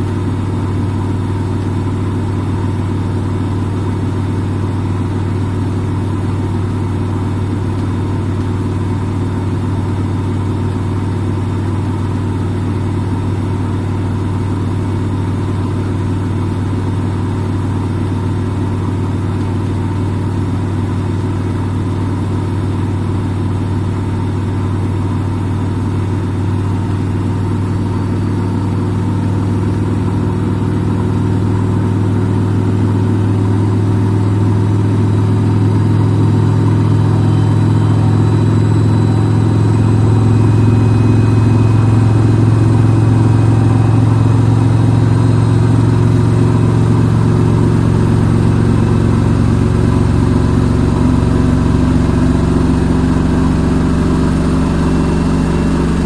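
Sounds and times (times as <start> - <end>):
washing machine spinning: 0.1 - 56.0.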